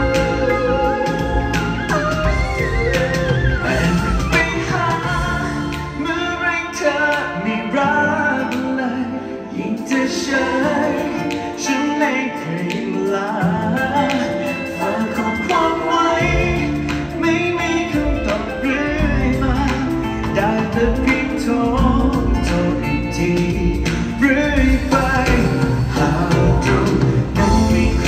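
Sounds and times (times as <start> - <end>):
man singing: 0.0 - 28.0
pop band with heavy bass: 0.0 - 28.0.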